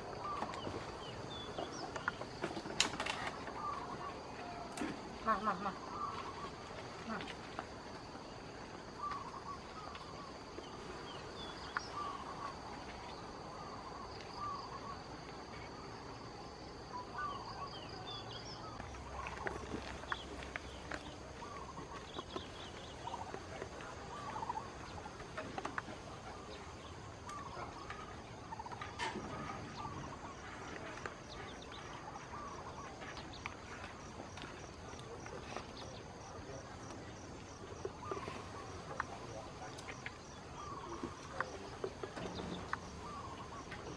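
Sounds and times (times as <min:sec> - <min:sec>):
chickens clucking: 0:00.0 - 0:12.8, 0:18.7 - 0:43.9.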